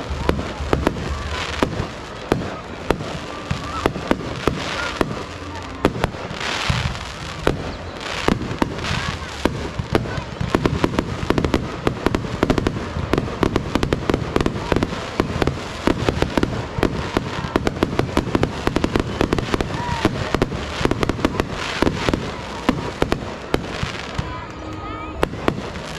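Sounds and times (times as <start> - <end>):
fireworks bangs: 0.0 - 25.9.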